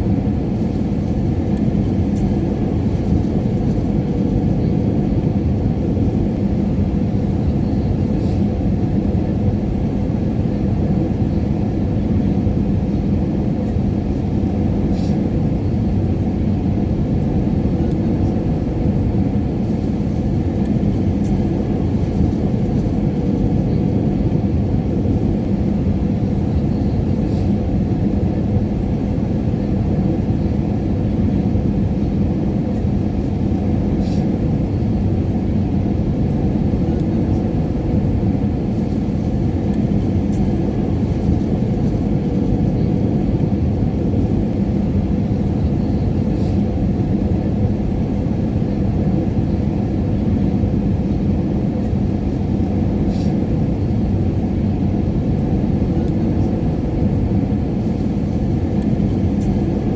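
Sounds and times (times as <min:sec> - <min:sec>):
airliner cabin rumble: 0:00.0 - 0:59.9
faint hum: 0:00.0 - 0:59.9.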